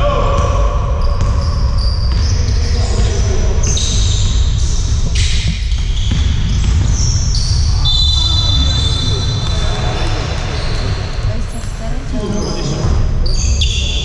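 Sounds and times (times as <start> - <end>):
sneakers squeaking: 1.0 - 14.0
basketball dribbling: 1.1 - 13.0.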